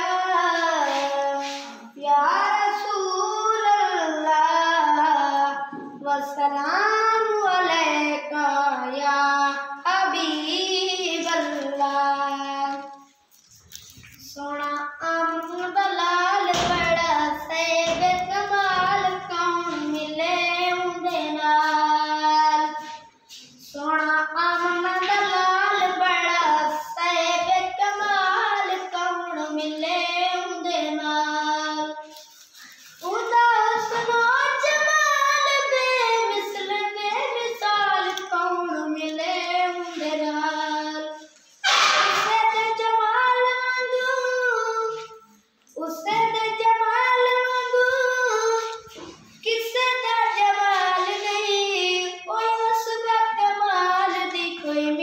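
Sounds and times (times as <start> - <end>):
boy singing unaccompanied: 0.0 - 55.0.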